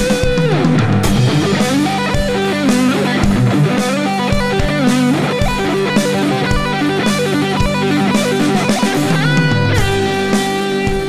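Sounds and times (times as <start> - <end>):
electric guitar fast arpeggio: 0.0 - 11.0.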